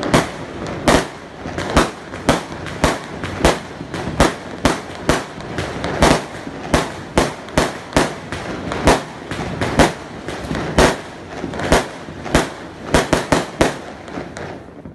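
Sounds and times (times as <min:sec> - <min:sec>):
fireworks bangs: 0:00.0 - 0:14.9
fireworks crackling: 0:00.0 - 0:14.9.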